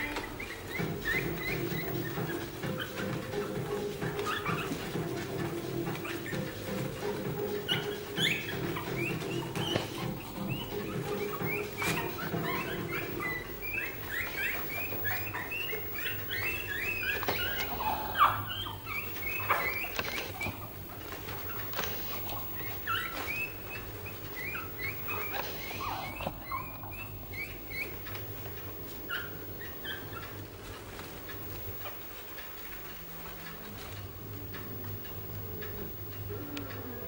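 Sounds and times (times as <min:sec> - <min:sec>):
puppies squeaking and whimpering: 0:00.0 - 0:37.0.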